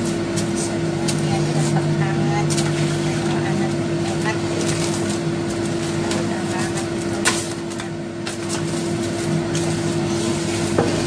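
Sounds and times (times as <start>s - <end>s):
steady hum: 0.0s - 11.0s
aluminium foil crinkling: 0.4s - 10.0s.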